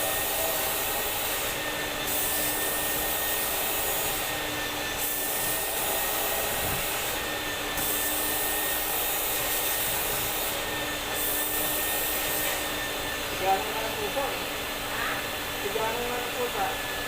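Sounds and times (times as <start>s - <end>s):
vacuum cleaner motor humming: 0.0s - 17.0s.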